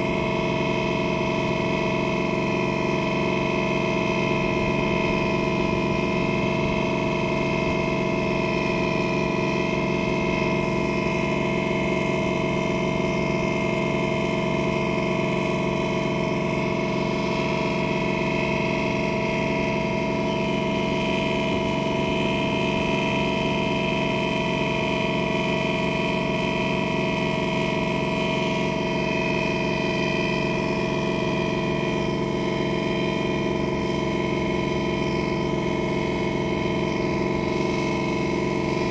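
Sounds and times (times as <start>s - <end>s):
boat engine drone: 0.0s - 38.9s.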